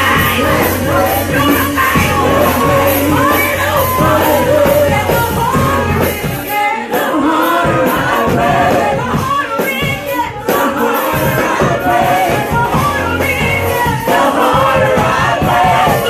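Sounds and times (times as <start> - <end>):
full band playing: 0.0 - 16.0
singers: 0.0 - 16.0.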